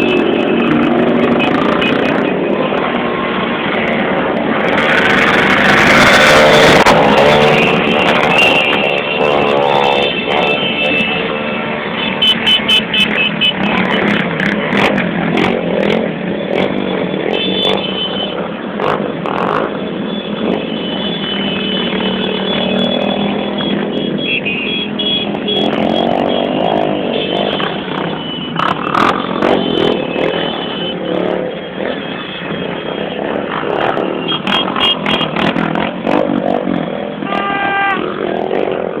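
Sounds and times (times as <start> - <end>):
motorcycle engines running: 0.0 - 39.0.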